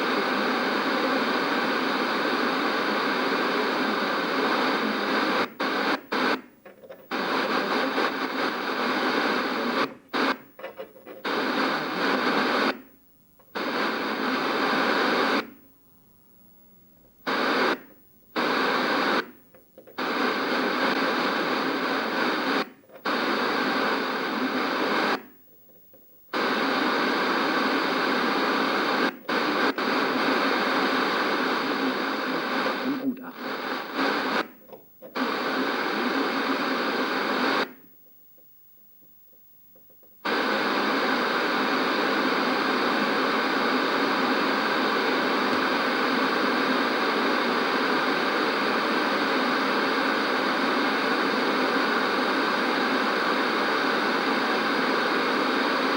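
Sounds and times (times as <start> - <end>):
tv static hiss: 0.0 - 55.9.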